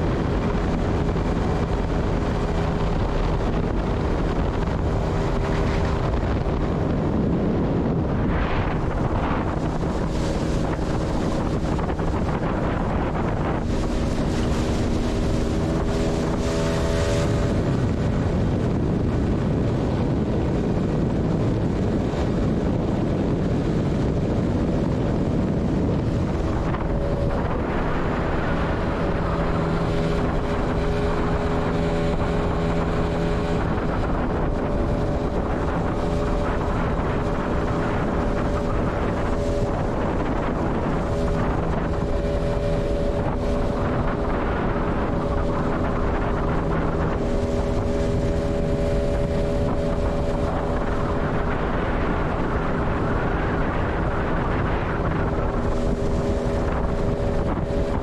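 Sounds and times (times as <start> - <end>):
outboard motor running: 0.0 - 58.0
water rushing past hull: 0.0 - 58.0
wind buffeting microphone: 0.0 - 58.0.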